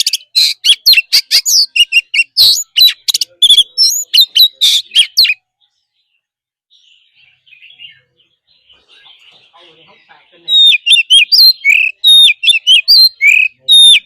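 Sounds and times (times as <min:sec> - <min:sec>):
bird singing whistled notes: 0:00.0 - 0:14.0
faint soft bird twittering: 0:00.0 - 0:14.0.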